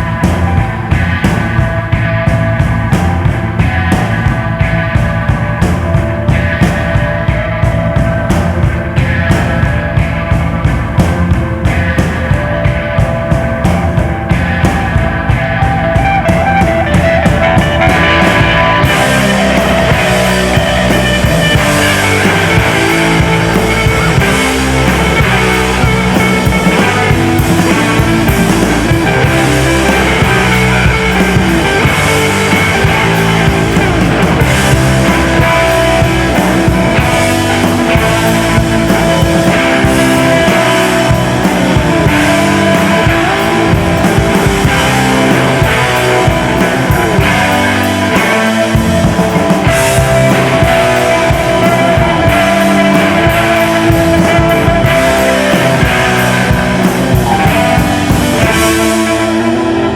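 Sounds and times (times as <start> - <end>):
drum kit playing a steady beat: 0.0 - 59.9
electric guitar: 0.0 - 59.9.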